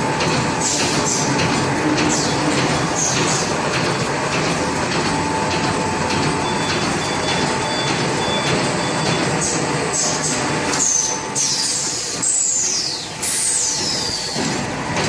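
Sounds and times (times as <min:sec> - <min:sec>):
bag making machine clattering: 0:00.0 - 0:15.0.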